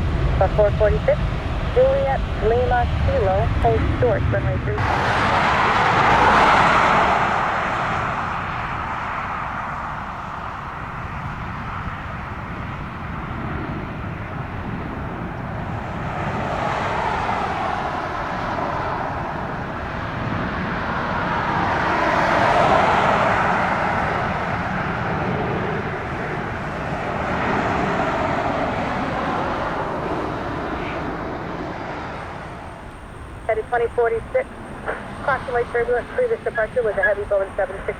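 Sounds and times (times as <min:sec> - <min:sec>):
distant jet engines roaring: 0:00.0 - 0:37.9.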